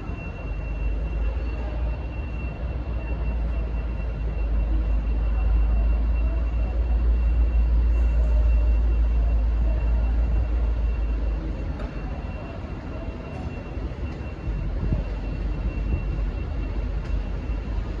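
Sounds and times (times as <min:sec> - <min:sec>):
locomotive engine rumbling: 0:00.0 - 0:18.0.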